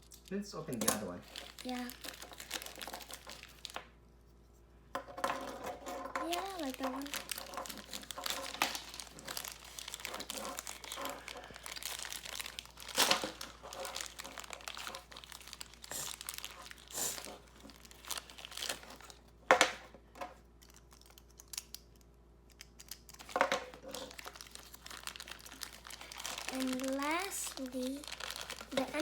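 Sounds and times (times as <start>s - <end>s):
plastic wrappers crinkling and tearing: 0.0s - 4.0s, 6.2s - 19.8s, 20.4s - 29.0s.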